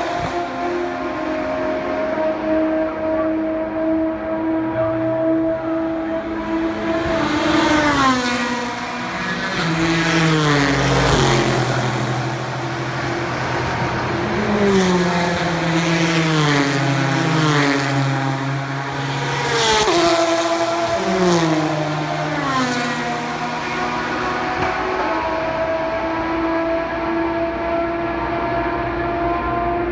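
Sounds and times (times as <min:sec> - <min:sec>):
race cars passing at high speed: 0:00.0 - 0:29.9.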